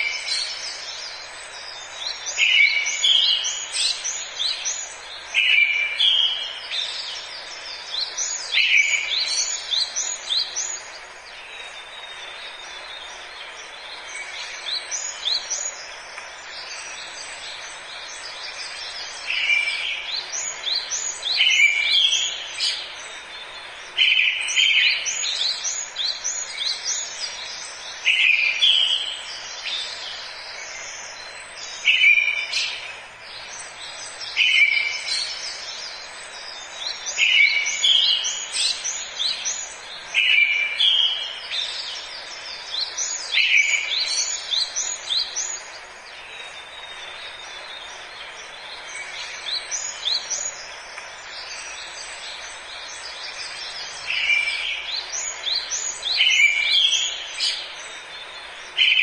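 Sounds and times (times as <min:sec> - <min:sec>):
background hiss: 0:00.0 - 0:59.0
songbird singing: 0:00.0 - 0:59.0.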